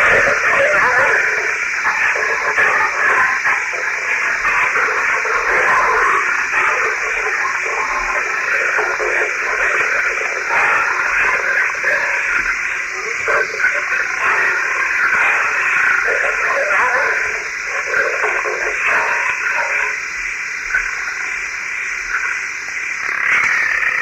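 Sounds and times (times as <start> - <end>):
tape hiss: 0.0 - 24.0.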